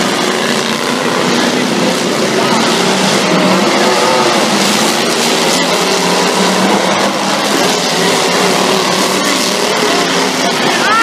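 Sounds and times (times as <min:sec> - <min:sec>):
truck engines at full throttle: 0:00.0 - 0:11.0.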